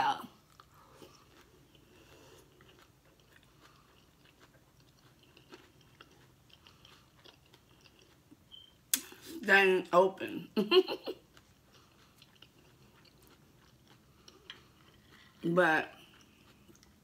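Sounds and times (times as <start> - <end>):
person chewing food: 0.3 - 9.3, 11.1 - 17.0.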